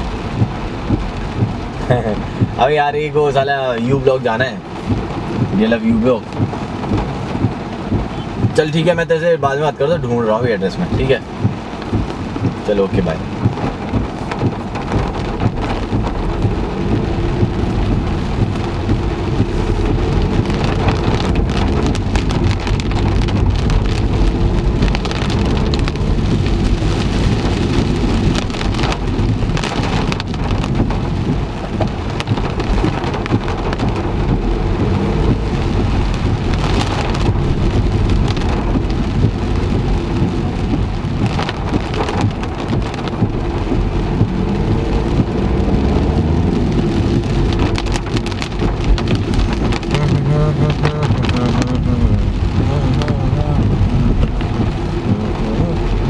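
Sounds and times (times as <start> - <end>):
heavy rain on car roof: 0.0 - 56.0.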